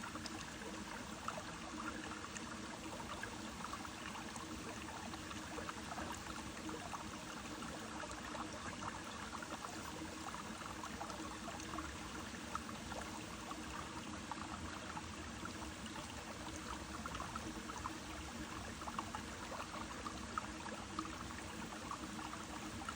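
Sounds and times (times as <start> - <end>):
brook water flowing: 0.0 - 22.9.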